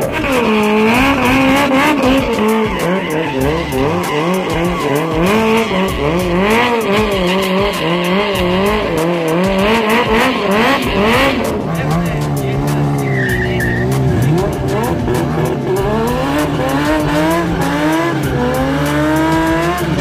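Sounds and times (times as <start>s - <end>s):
tyre squealing on tarmac: 0.0s - 16.1s
motorcycle engine revving: 0.0s - 20.0s.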